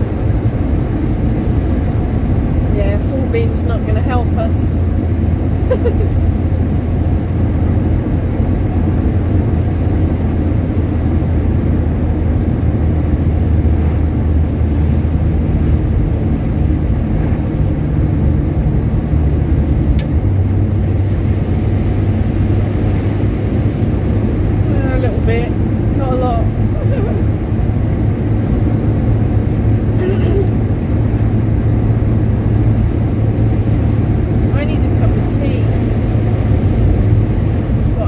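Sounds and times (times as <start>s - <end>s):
car engine running: 0.0s - 38.0s
road noise inside car: 0.0s - 38.0s.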